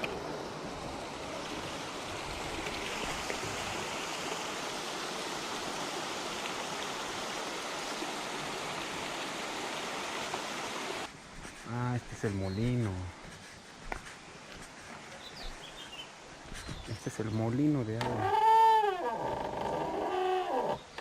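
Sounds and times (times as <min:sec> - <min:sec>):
running water rushing: 0:00.0 - 0:13.3, 0:14.3 - 0:21.0.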